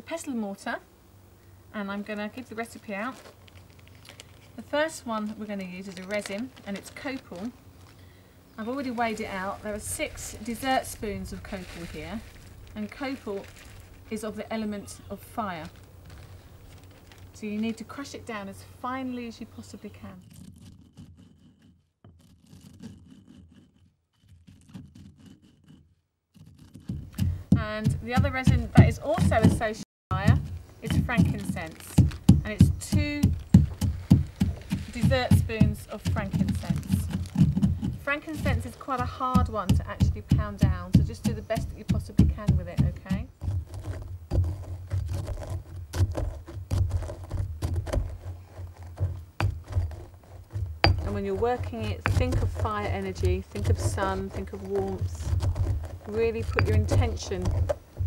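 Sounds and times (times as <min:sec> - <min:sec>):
resin crushed in stone mortar: 0:02.4 - 0:18.2, 0:19.2 - 0:58.0.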